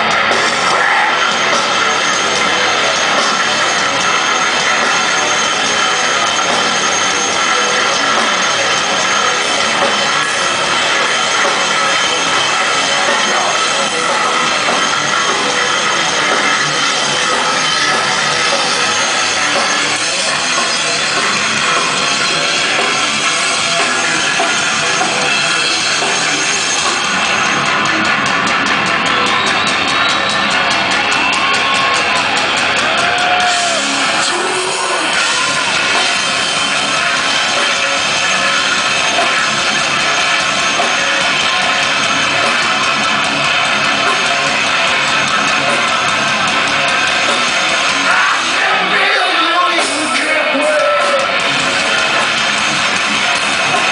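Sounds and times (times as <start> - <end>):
heavy metal band playing live: 0.0 - 53.9.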